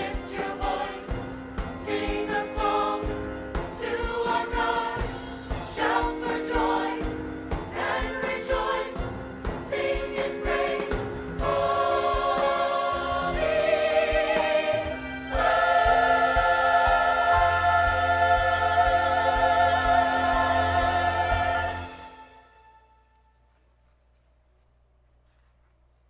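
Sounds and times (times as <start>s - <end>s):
church choir singing: 0.0s - 22.9s.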